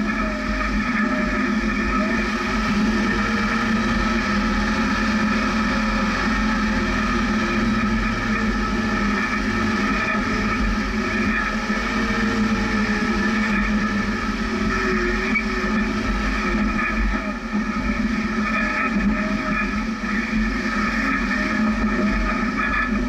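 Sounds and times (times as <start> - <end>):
engine droning at low revs: 0.0 - 23.0.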